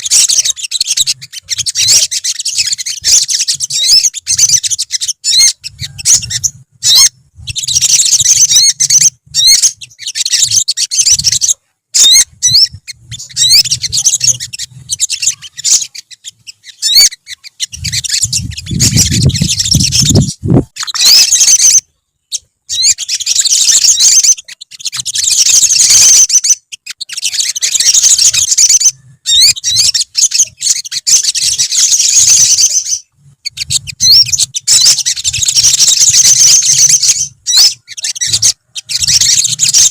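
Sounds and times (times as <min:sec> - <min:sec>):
sunbirds twittering: 0:00.0 - 0:39.9.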